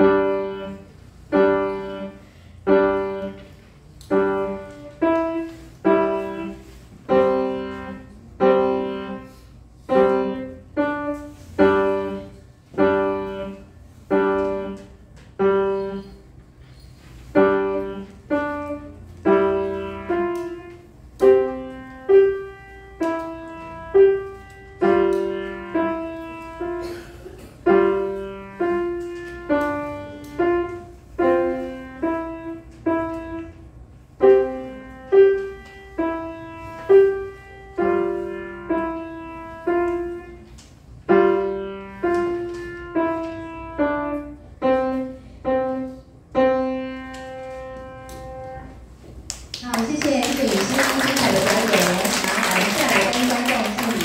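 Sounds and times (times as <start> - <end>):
grand piano chords: 0.0 - 16.4, 17.1 - 49.1.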